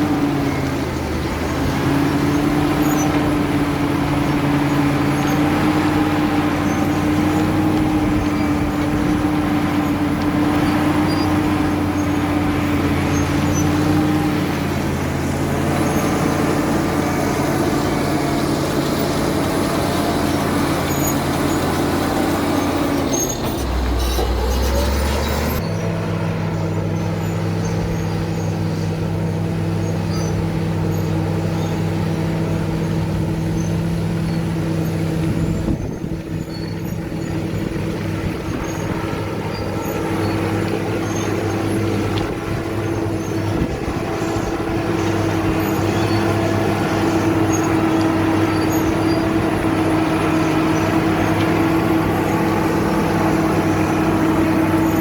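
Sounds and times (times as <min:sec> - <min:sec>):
bulldozer diesel engine under load: 0:00.0 - 0:55.0
different steady engine note: 0:00.0 - 0:55.0.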